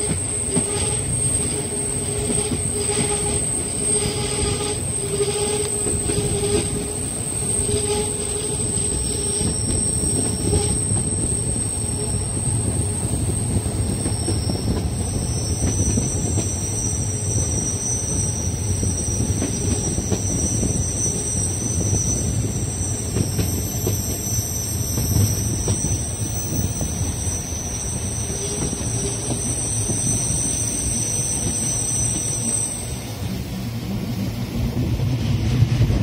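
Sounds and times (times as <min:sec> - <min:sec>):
high-pitched wheel squeal: 0:00.0 - 0:33.1
train wheels rumbling on rail: 0:00.0 - 0:36.0.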